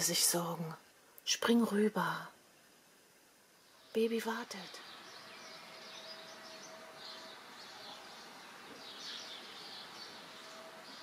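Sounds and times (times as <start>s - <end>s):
small songbirds chirping: 0.0s - 11.0s
thin steady hum: 0.0s - 11.0s.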